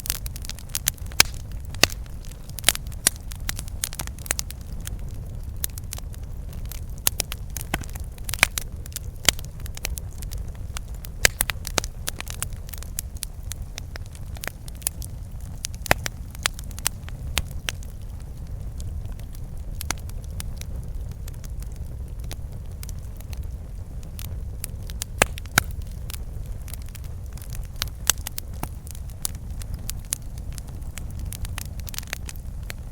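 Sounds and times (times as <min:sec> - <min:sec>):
campfire wood crackling and popping: 0:00.0 - 0:32.9
steady low rumble: 0:00.0 - 0:32.9.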